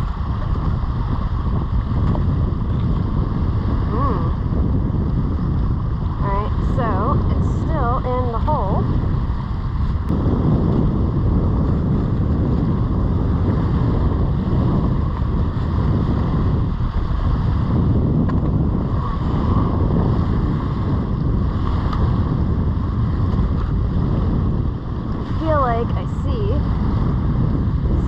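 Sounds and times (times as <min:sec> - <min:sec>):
surf washing: 0:00.0 - 0:28.0
wind buffeting microphone: 0:00.0 - 0:28.0.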